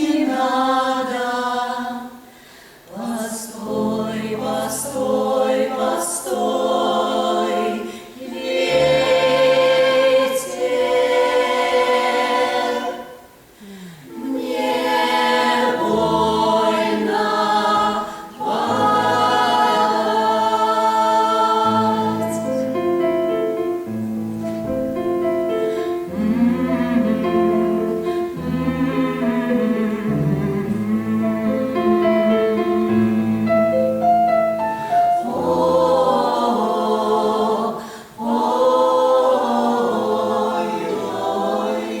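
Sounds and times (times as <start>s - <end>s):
choir singing in harmony: 0.0s - 23.9s, 24.6s - 42.0s.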